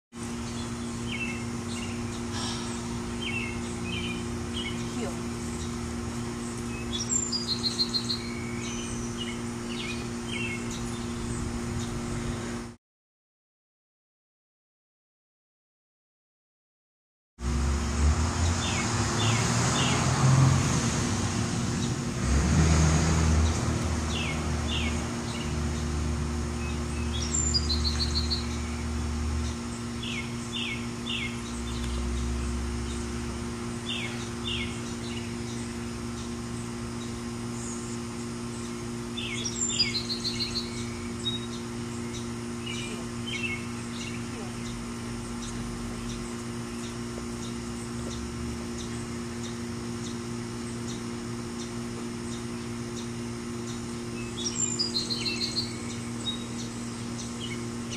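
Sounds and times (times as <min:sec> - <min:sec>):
birds chirping: 0:00.2 - 0:12.7, 0:18.4 - 0:20.1, 0:23.4 - 0:57.9
steady low hum: 0:00.2 - 0:12.8, 0:17.4 - 0:57.9.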